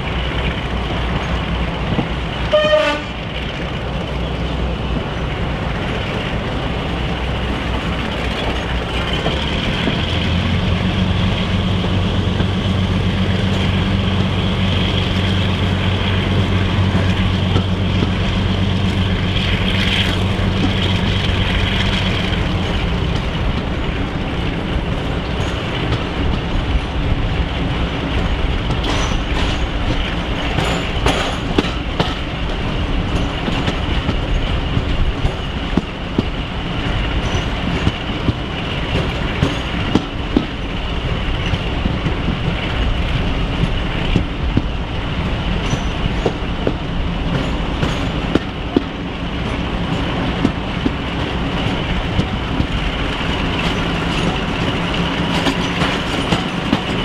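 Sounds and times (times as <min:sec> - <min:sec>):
diesel locomotive engines working: 0:00.0 - 0:57.0
wheels clicking over rail joints: 0:00.0 - 0:57.0.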